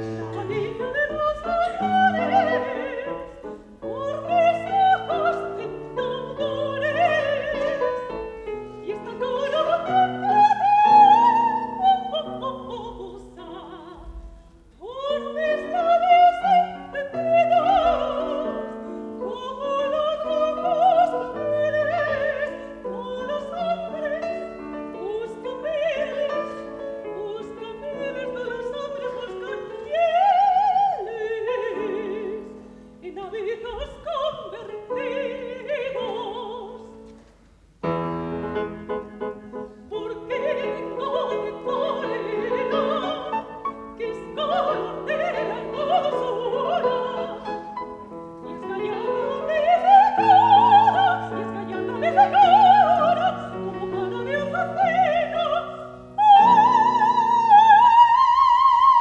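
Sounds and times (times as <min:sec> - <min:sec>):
soprano singing operatically: 0:00.0 - 0:37.2, 0:38.5 - 0:59.0
grand piano: 0:00.0 - 0:59.0.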